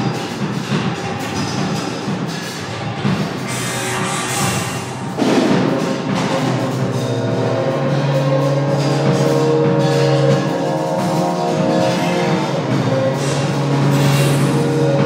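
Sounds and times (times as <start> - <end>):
noisy wall of sound: 0.0 - 15.0
steady mid tone: 0.0 - 15.0
low drone tones: 0.6 - 15.0.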